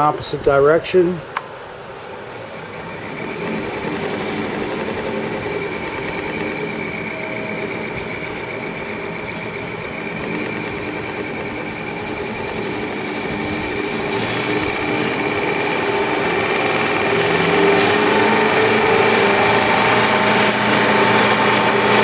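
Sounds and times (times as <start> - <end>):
drill press motor running: 1.9 - 22.0.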